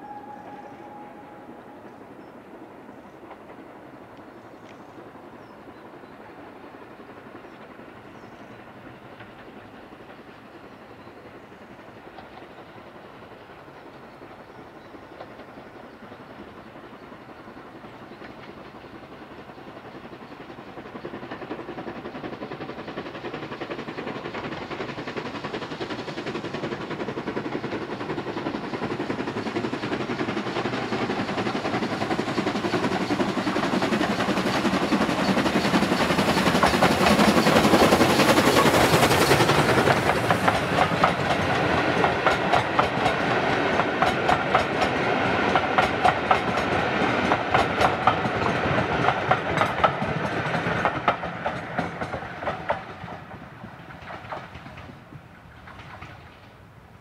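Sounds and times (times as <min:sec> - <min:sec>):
steam locomotive hauling train: 0:00.0 - 0:57.0.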